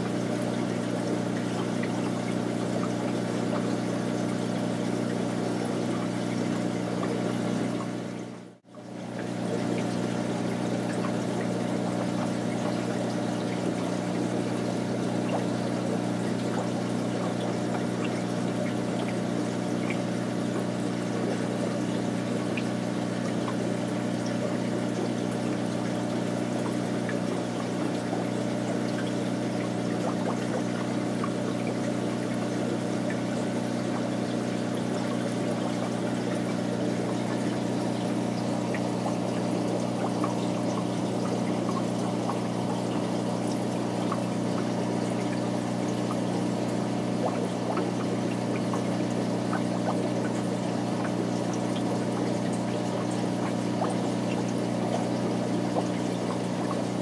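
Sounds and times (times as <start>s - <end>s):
small splashing ticks: 0.0s - 7.9s, 8.8s - 57.0s
low pump hum: 0.0s - 57.0s
water pouring and trickling: 0.0s - 57.0s.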